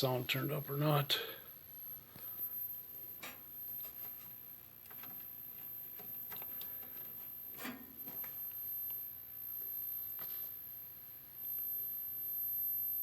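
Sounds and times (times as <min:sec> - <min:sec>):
high-pitched tv whine: 0:00.0 - 0:13.0.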